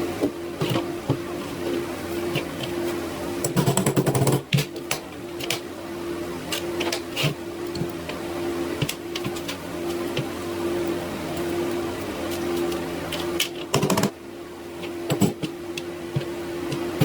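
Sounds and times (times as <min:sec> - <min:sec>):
intermittent hum: 0:00.0 - 0:17.0.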